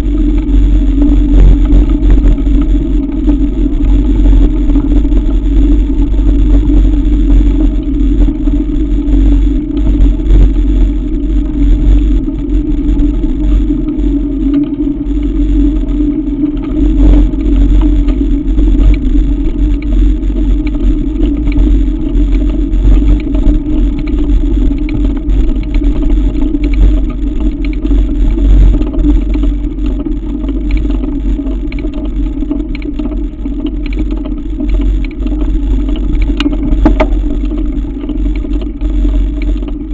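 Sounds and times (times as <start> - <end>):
bike rumbling over gravel: 0.0 - 39.9.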